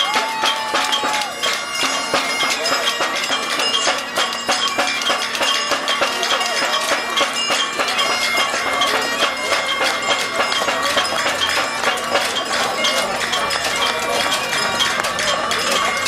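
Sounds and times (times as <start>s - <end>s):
bagpipes playing: 0.0s - 16.0s
crowd chatter: 0.0s - 16.0s.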